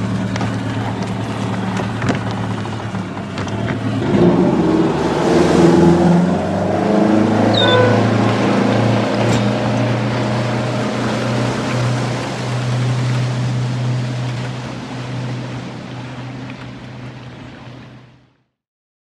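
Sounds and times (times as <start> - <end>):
boat engine droning: 0.0 - 18.5
churning water: 0.0 - 18.5.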